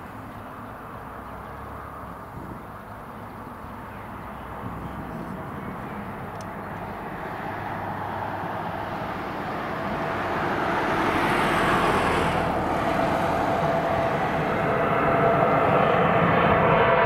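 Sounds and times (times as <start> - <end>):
faint steady whine: 0.0 - 17.0
jet engines on approach: 0.0 - 17.0.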